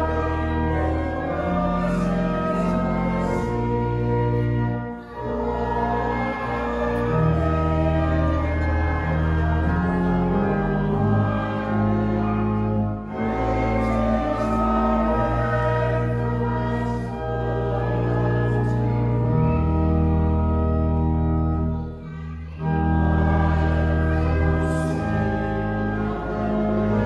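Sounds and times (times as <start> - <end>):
congregation singing a hymn: 0.0 - 21.8, 22.6 - 27.0
church organ: 0.0 - 27.0.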